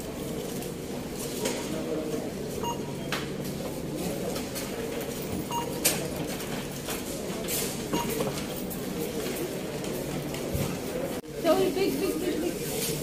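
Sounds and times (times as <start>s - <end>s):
shop background din: 0.0s - 13.0s.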